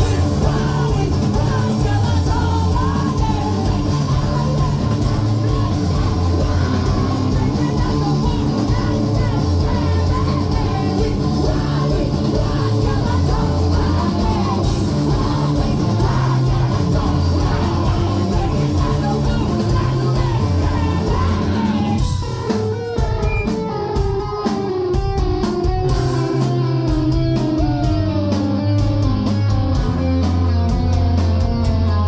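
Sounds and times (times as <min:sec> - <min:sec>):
fast drumbeat: 0:00.0 - 0:28.1
guitars: 0:00.0 - 0:32.0.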